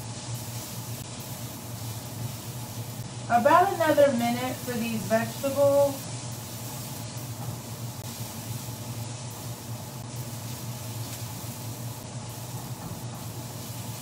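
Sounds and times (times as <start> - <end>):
low steady hum: 0.0 - 14.0
vegetables sizzling in a frying pan: 0.0 - 14.0.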